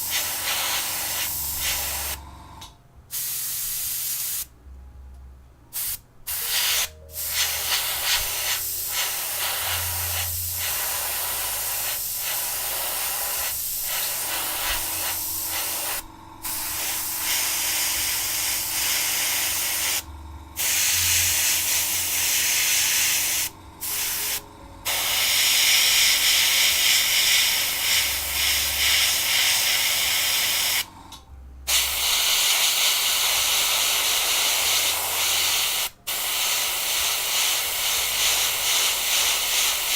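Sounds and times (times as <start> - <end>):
airbrush spraying hiss: 0.0 - 2.2, 3.1 - 4.5, 5.7 - 30.9, 31.7 - 39.9.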